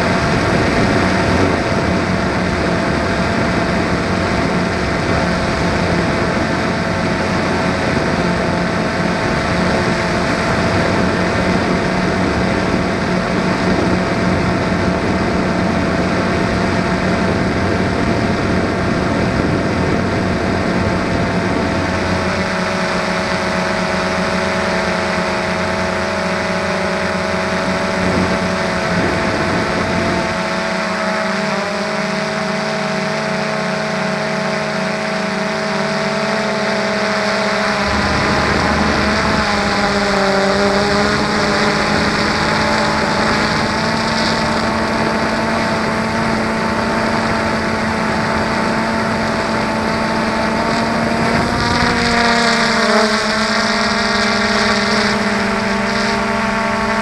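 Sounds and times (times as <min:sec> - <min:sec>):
remote-controlled aircraft motors whining: 0:00.0 - 0:57.0.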